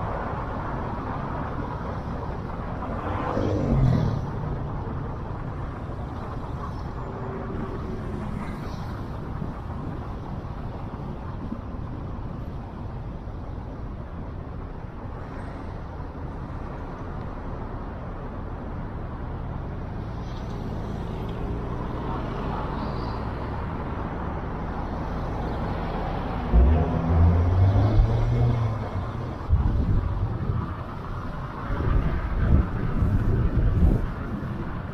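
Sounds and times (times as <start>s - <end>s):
car engine rumble: 0.0s - 34.9s
road and tyre noise: 0.0s - 34.9s.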